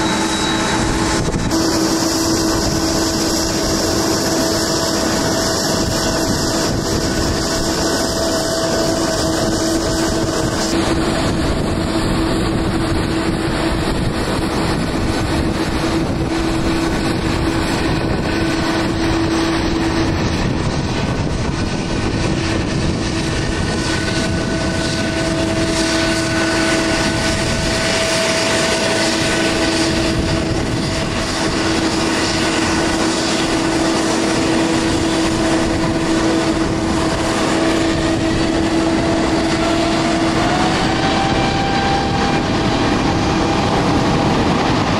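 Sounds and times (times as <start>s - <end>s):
jet engine whine and rush: 0.0s - 44.9s.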